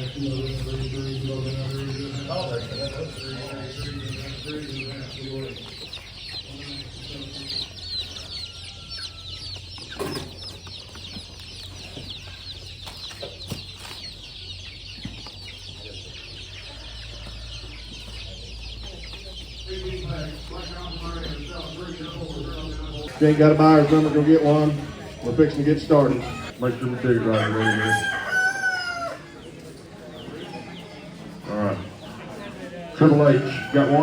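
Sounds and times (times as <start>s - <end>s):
poultry peeping and clucking: 0.0s - 34.0s.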